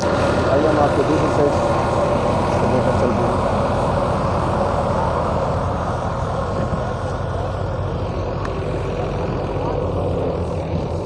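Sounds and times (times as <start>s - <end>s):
thresher and diesel engine running: 0.0s - 11.0s.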